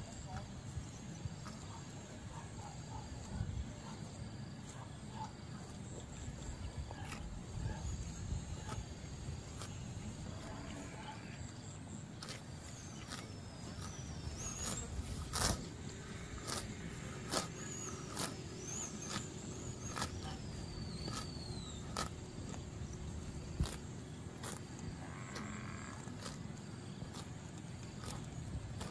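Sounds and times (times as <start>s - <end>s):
cattle tearing grass: 0.0s - 28.9s.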